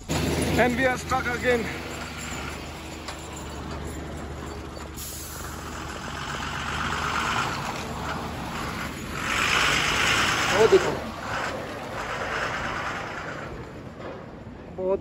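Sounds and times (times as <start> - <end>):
vehicle engines in slow traffic: 0.0 - 15.0.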